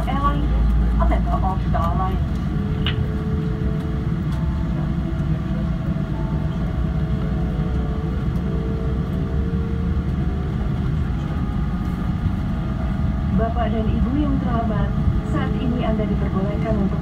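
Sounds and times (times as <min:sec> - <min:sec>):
airliner engines rumbling: 0:00.0 - 0:17.0
faint steady hums: 0:00.0 - 0:17.0.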